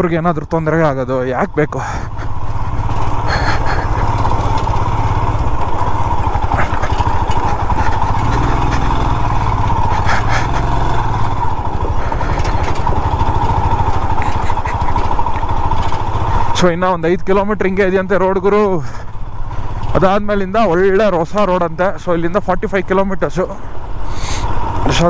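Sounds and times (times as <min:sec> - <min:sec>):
tyres on gravel: 0:00.0 - 0:22.3
motorcycle engine at low revs: 0:00.0 - 0:25.0.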